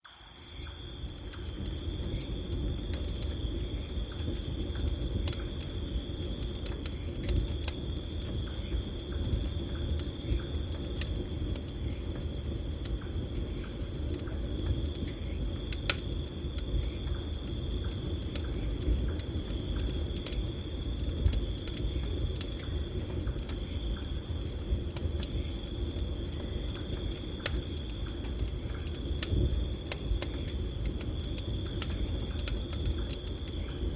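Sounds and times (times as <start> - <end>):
crickets singing: 0.1 - 33.9
fire crackles and pops: 0.2 - 33.9
campfire flame rushing: 0.8 - 33.9.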